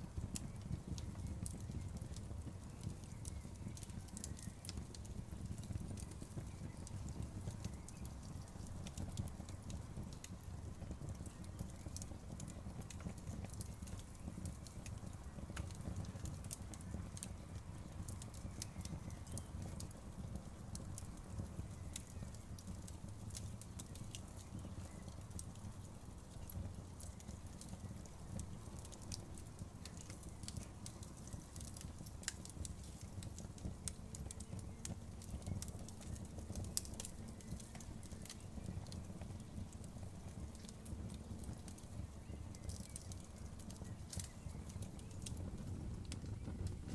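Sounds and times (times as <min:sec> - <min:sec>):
low fire noise: 0:00.0 - 0:46.9
wood crackling and popping: 0:00.0 - 0:46.9.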